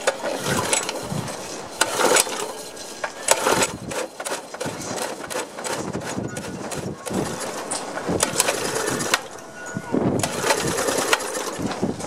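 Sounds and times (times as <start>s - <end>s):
recoil starter rope pulled: 0.0s - 9.4s, 10.1s - 12.0s
engine turning over: 0.0s - 9.5s, 10.1s - 12.0s
clunks and rattles: 0.0s - 12.0s.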